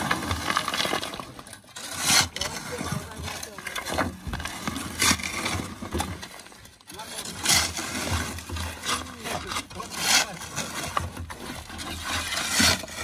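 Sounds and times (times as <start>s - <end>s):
shovels scraping soil: 0.0s - 13.0s.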